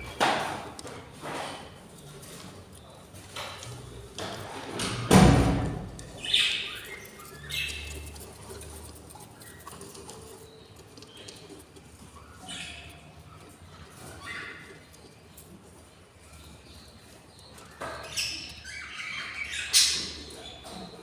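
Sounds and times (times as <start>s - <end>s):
scratching and rustling: 0.0s - 18.3s.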